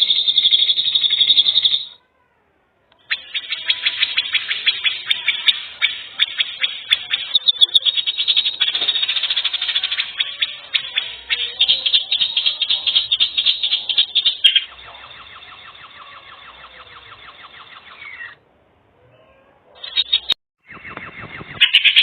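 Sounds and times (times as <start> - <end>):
animal pulsed chirps: 0.0 - 2.0, 3.0 - 18.4, 19.8 - 22.0.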